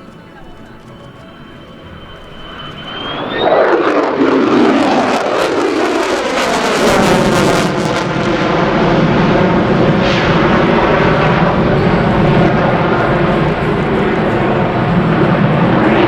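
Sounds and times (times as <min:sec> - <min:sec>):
military aircraft engine flying past: 0:00.0 - 0:16.0.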